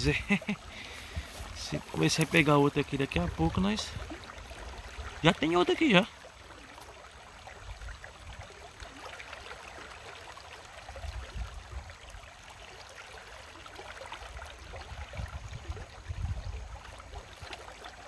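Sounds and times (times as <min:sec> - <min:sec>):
river water trickling: 0:00.0 - 0:18.0.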